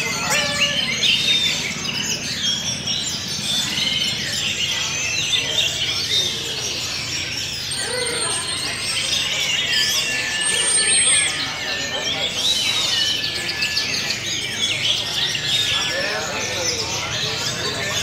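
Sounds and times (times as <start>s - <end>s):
thin steady high tone: 0.0s - 18.0s.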